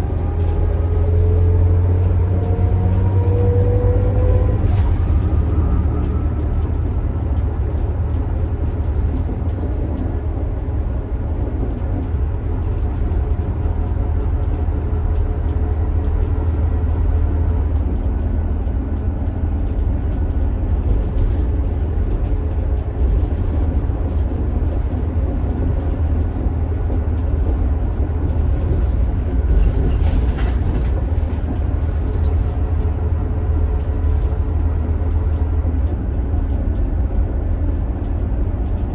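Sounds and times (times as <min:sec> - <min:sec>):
diesel bus engine rumble: 0:00.0 - 0:38.9
road noise: 0:00.0 - 0:38.9.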